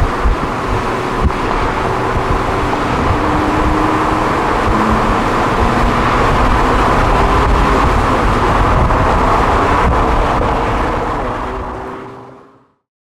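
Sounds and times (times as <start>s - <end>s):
car engine and road rumble: 0.0s - 12.8s.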